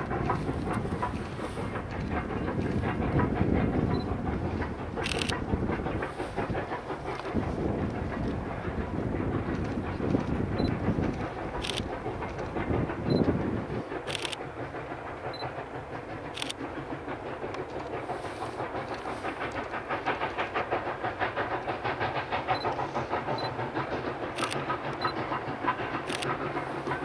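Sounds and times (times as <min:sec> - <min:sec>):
steam train running: 0:00.0 - 0:27.0.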